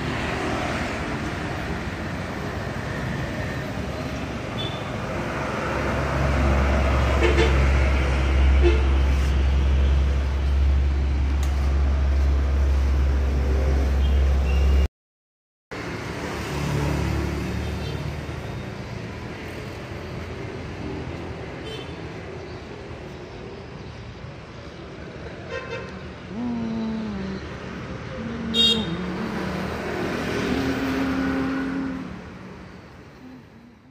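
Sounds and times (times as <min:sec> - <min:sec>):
traffic rumbling past: 0:00.0 - 0:14.9, 0:15.7 - 0:33.9.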